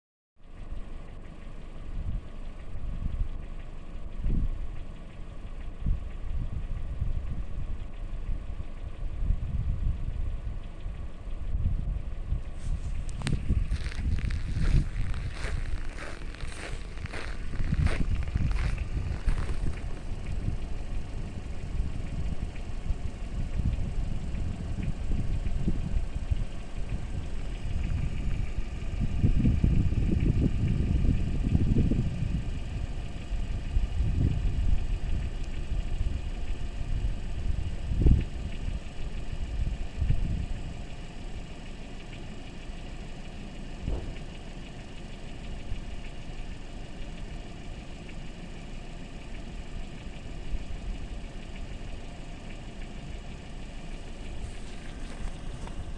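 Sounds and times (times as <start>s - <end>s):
car engine idling: 0.4s - 55.9s
engine knocking thuds: 0.5s - 55.9s.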